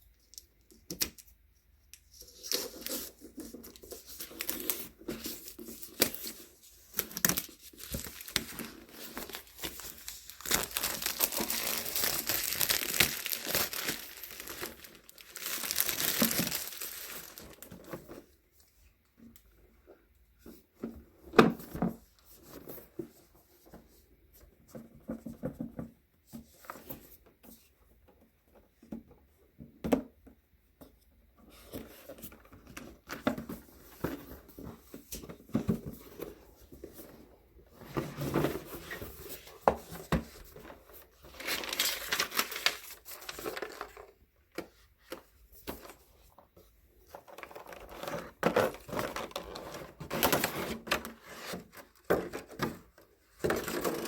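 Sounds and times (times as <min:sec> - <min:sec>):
rustling and crinkling: 0:01.9 - 0:29.2, 0:30.8 - 0:54.0.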